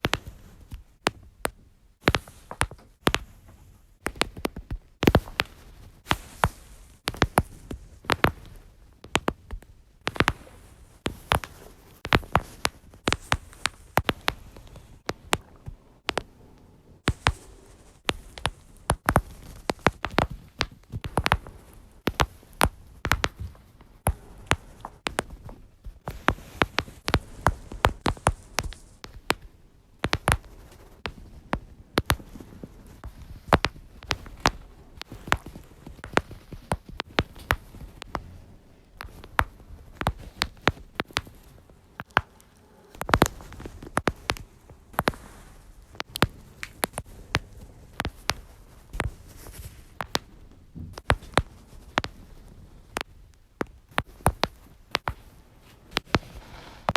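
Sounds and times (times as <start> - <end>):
back joints cracking: 0.0 - 56.9.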